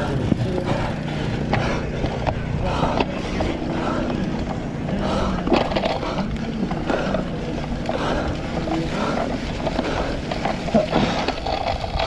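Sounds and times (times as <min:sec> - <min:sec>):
bike rattling and knocking: 0:00.0 - 0:12.0
bike tires rolling on rough ground: 0:00.0 - 0:12.0.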